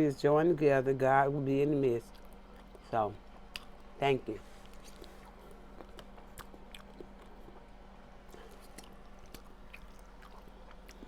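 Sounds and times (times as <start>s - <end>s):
steady low hum: 0.0s - 11.0s
close-up chewing: 2.0s - 11.0s.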